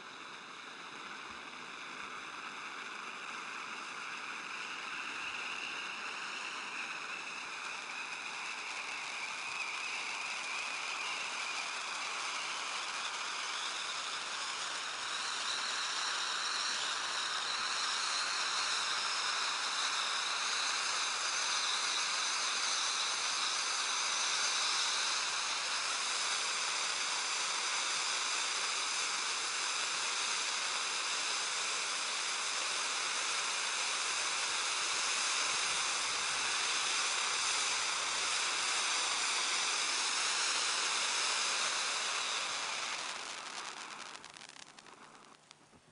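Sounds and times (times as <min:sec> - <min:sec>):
firework fountain hissing: 0:00.0 - 0:45.9.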